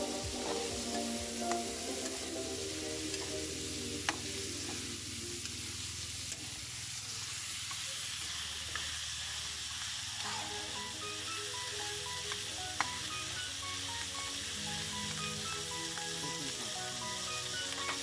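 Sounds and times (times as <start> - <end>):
meat sizzling in a wok: 0.0 - 18.0.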